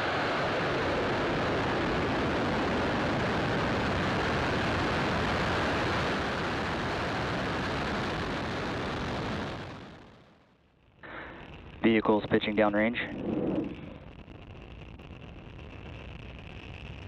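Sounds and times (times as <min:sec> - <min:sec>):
rocket exhaust roar: 0:00.0 - 0:17.0.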